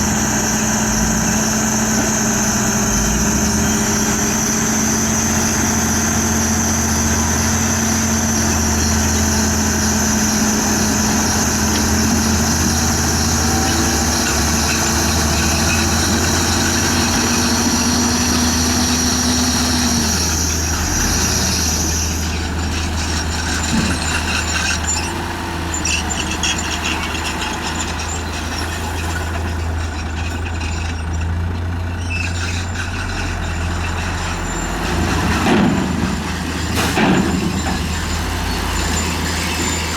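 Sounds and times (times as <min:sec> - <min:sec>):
bulldozer diesel engine whining: 0:00.0 - 0:39.9.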